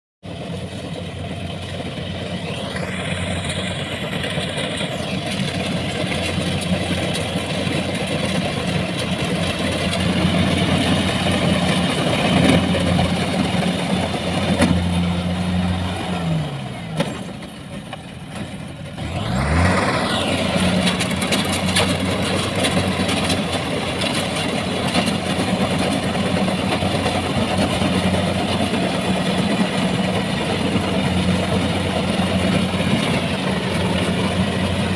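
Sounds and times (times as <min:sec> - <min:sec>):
harvester engine running: 0:00.2 - 0:34.9.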